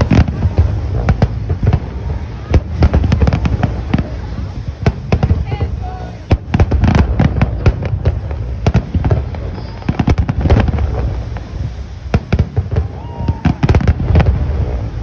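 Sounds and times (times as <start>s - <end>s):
firework shells bursting: 0.0s - 15.0s
low rumble: 0.0s - 15.0s.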